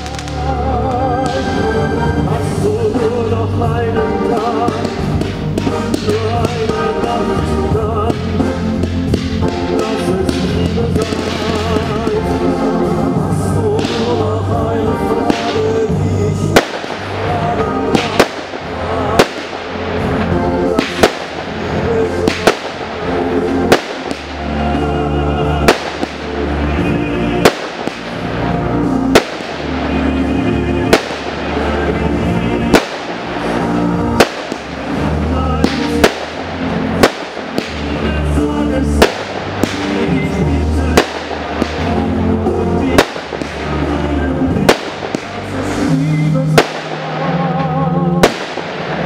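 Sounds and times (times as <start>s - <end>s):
fireworks bangs: 0.0s - 49.0s
loud music with bass: 0.0s - 49.0s.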